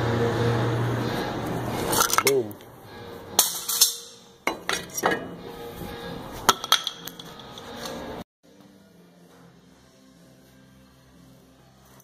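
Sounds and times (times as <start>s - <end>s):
faint background music: 0.4s - 12.0s.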